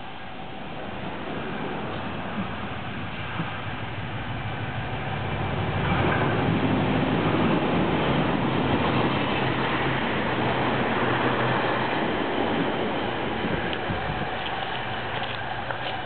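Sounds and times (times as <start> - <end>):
diesel train engine hum: 0.0 - 16.0
wheels on rails: 0.0 - 16.0.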